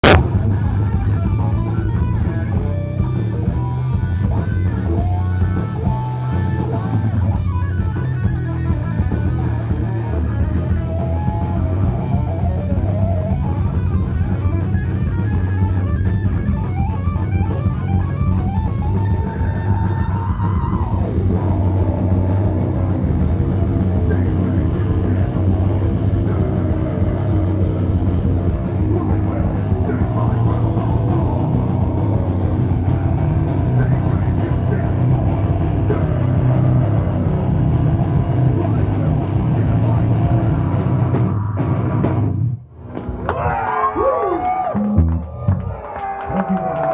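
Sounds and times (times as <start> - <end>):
drum kit: 0.0 - 43.6, 44.4 - 46.9
electric guitars: 0.0 - 46.9.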